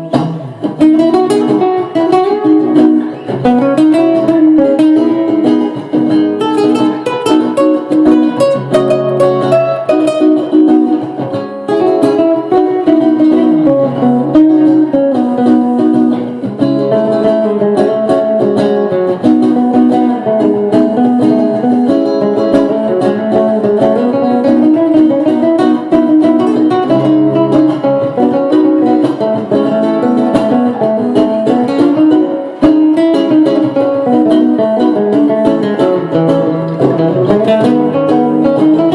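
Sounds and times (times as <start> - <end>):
guitar improvisation: 0.0 - 38.9.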